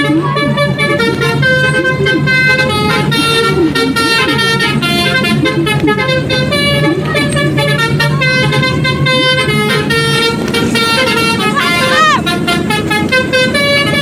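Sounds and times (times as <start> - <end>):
bus horn playing multi-tone tune: 0.0 - 14.0.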